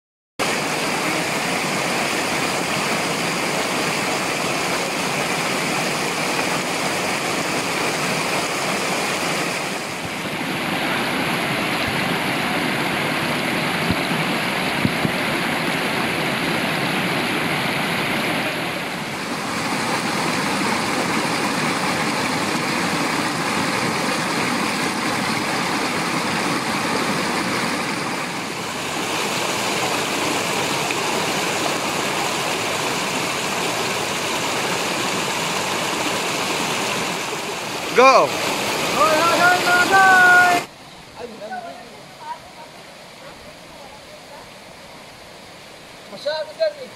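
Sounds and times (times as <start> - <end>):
stream rushing over rocks: 0.4 - 46.9.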